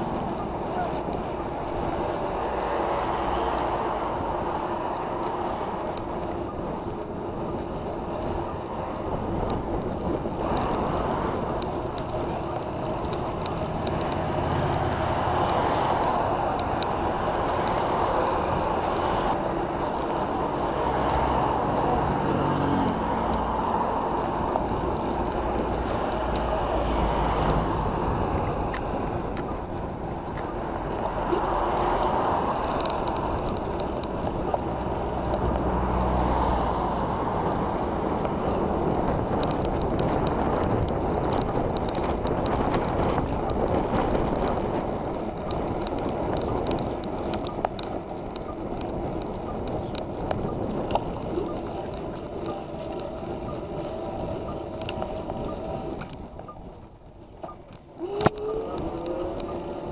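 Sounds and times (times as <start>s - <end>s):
road traffic passing: 0.0s - 59.9s
wind rushing over microphone: 0.0s - 59.9s.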